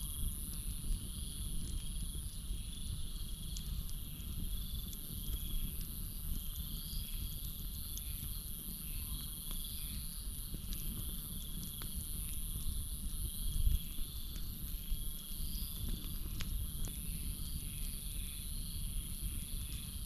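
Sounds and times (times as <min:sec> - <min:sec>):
campfire crackling: 0:00.0 - 0:20.0
crickets chirping: 0:00.0 - 0:20.0.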